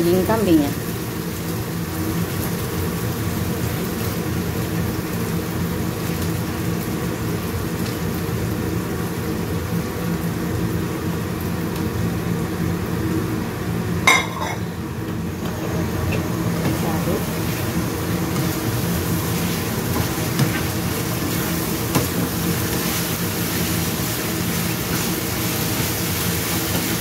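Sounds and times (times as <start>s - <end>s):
meat sizzling in a wok: 0.0s - 27.0s.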